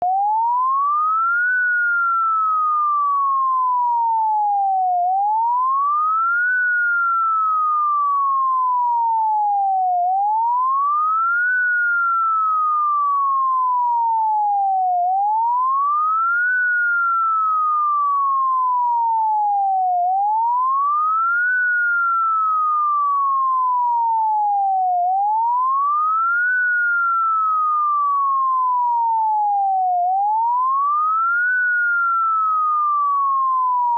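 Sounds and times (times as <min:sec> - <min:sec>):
electronic siren rising and falling: 0:00.0 - 0:33.9.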